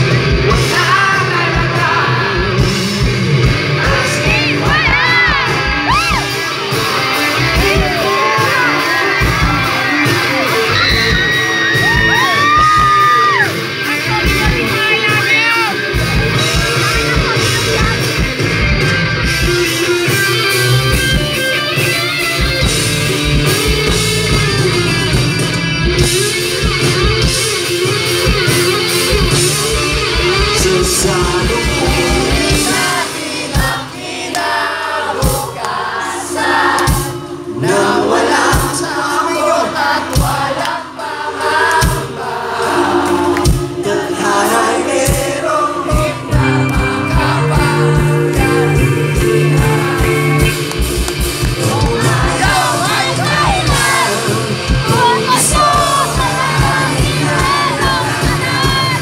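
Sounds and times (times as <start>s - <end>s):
lead singer singing: 0.0s - 18.5s, 19.3s - 59.0s
bass guitar: 0.0s - 41.0s, 41.6s - 59.0s
drums: 0.0s - 59.0s
electric guitars: 0.0s - 59.0s.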